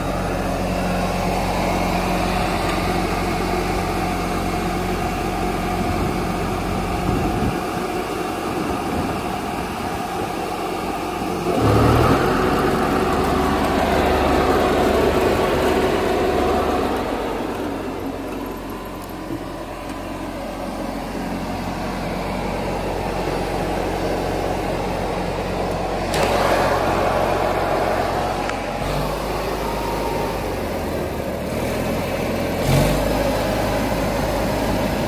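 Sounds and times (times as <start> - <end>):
lawn tractor engine running: 0.0 - 35.0.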